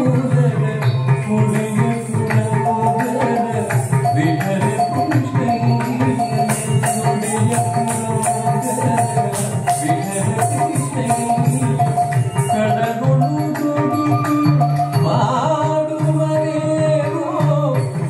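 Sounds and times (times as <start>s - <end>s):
held melody line: 0.0s - 18.0s.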